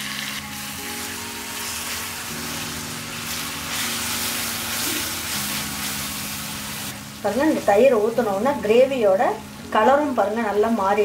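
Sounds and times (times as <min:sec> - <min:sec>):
gravy sizzling in a frying pan: 0:00.0 - 0:11.0
soft background music: 0:00.0 - 0:11.0.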